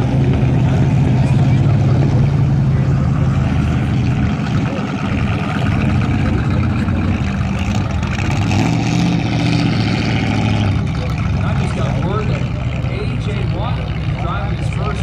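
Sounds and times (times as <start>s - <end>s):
race truck engines running: 0.0s - 15.0s.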